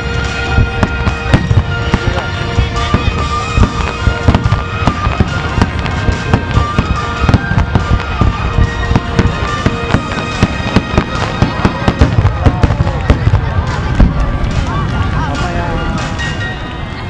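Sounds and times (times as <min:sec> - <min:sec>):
fireworks bursting bangs: 0:00.0 - 0:15.0
music playing: 0:00.0 - 0:17.0.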